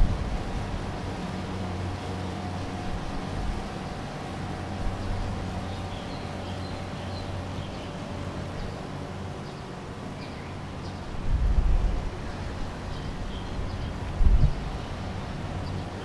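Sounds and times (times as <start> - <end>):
street ambience hum: 0.0 - 16.0.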